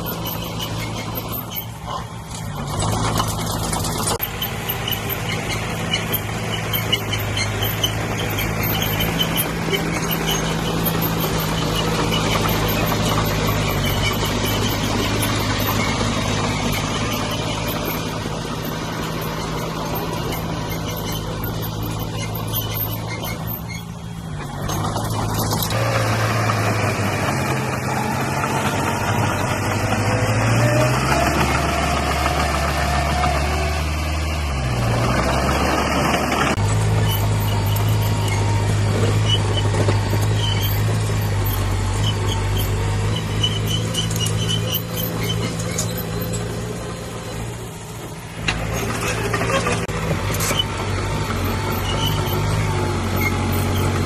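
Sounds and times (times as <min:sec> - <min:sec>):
heavy diesel engines revving: 0:00.0 - 0:54.0.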